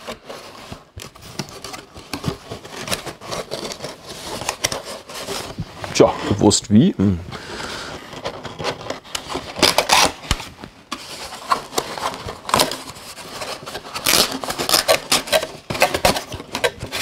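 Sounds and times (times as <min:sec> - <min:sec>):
cardboard and plastic scraping: 0:00.0 - 0:06.5, 0:07.3 - 0:17.0.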